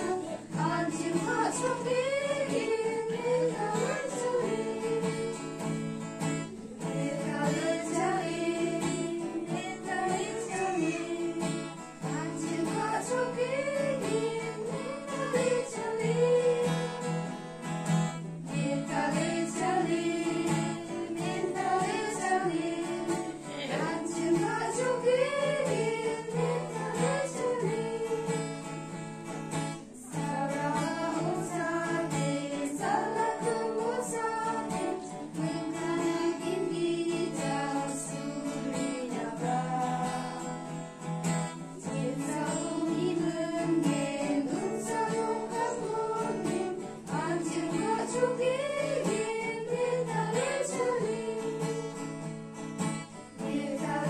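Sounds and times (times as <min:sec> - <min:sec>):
women's group singing a hymn: 0:00.0 - 0:52.3, 0:53.1 - 0:54.0
guitar accompaniment: 0:00.0 - 0:54.0.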